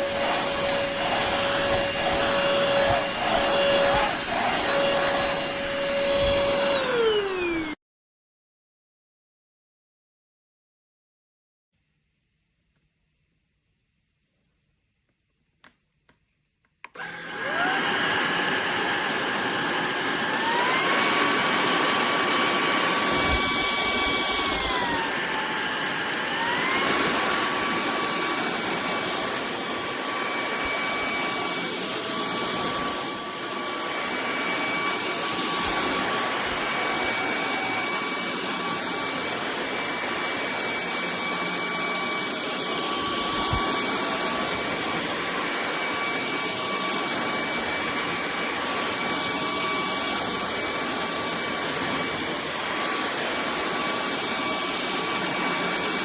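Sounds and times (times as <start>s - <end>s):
vacuum cleaner motor whining: 0.0s - 7.8s, 16.8s - 56.0s.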